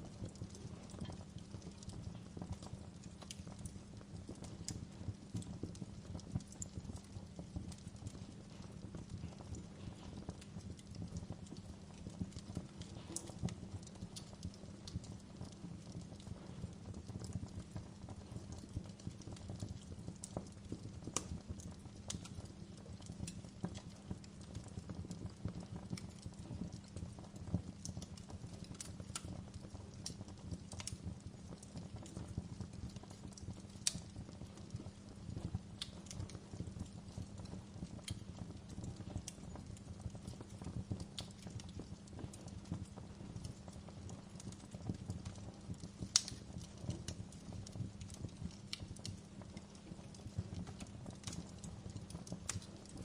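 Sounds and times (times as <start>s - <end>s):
low rumble of burning logs: 0.0s - 53.0s
sharp fire pops and snaps: 0.0s - 53.0s
wood fire crackling: 0.0s - 53.0s.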